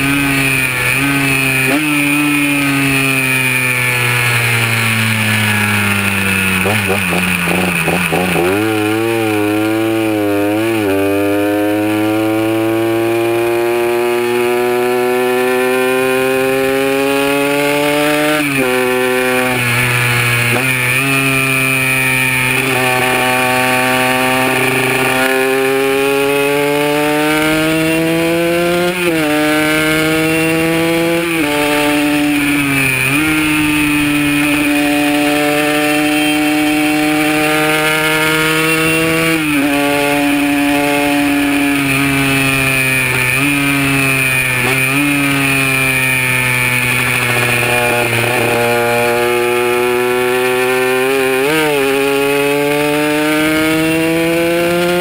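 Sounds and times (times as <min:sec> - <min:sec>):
two-stroke engine running hard: 0:00.0 - 0:55.0.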